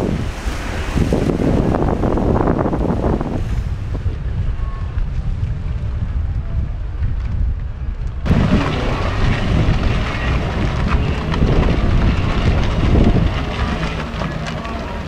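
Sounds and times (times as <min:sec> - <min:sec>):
rumble of stampeding hooves: 0:00.0 - 0:15.0.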